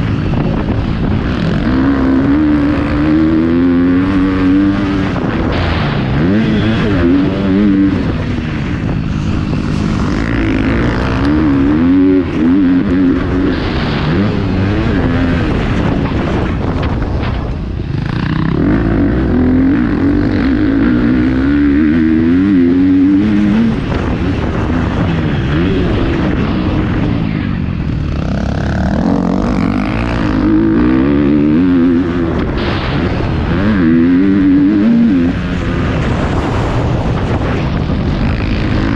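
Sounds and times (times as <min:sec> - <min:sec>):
motocross engine revving: 0:00.0 - 0:17.2, 0:17.8 - 0:38.9
steady rush of noise: 0:00.0 - 0:38.9.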